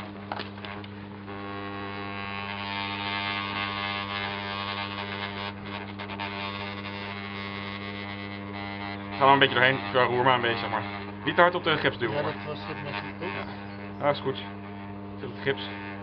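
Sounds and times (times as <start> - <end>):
vibrating plate humming and buzzing: 0.0 - 16.0.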